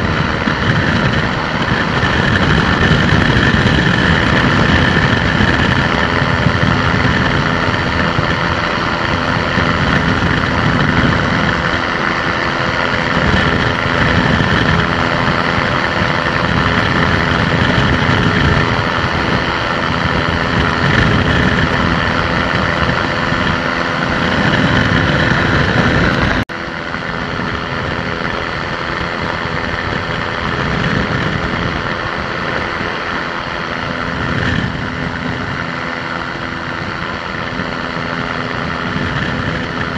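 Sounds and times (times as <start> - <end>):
light aircraft engine running: 0.0 - 39.9
rushing air: 0.0 - 39.9.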